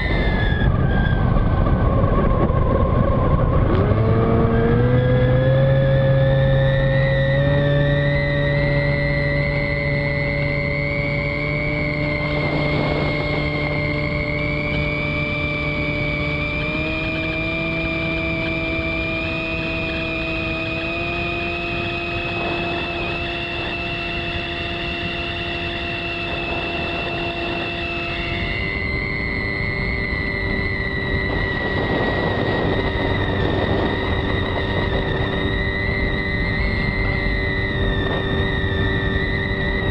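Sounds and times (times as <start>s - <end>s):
model plane motor whining: 0.0s - 39.9s
rushing air: 0.0s - 39.9s.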